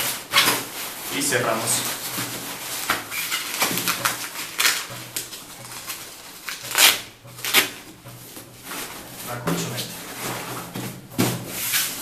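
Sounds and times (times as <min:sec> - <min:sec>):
hands rustling nylon fabric: 0:00.0 - 0:10.7.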